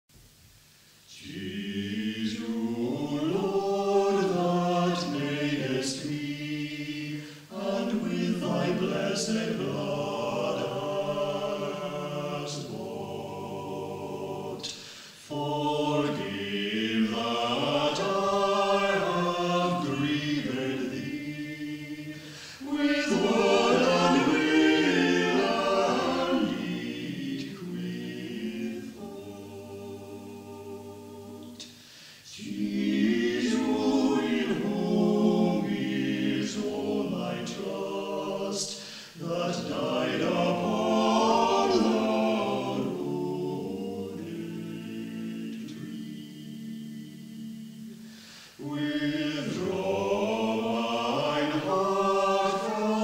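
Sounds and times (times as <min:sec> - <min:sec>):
choir singing unaccompanied: 0:01.1 - 0:53.0.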